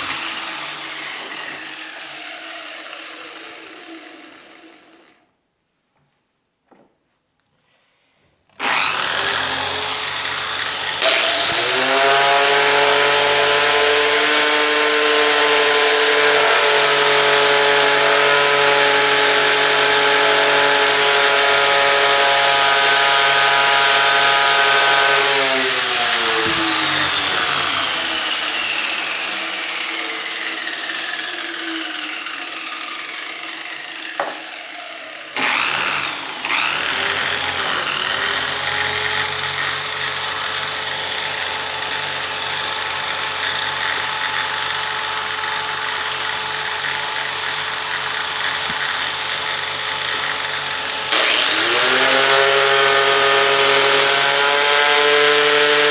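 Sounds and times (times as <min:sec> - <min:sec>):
drill cutting wood: 0:00.0 - 0:05.0, 0:08.5 - 0:55.9
drill motor whine: 0:08.6 - 0:55.9.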